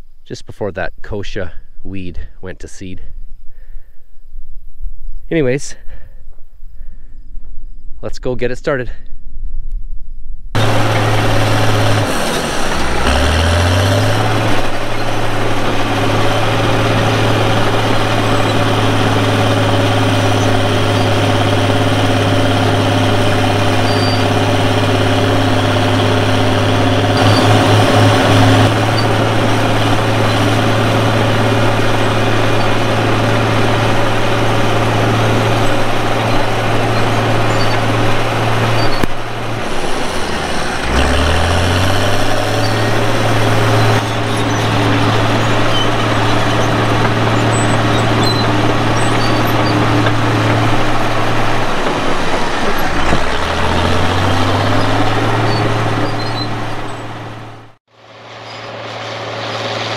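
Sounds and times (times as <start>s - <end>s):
bulldozer diesel engine revving: 10.6s - 59.9s.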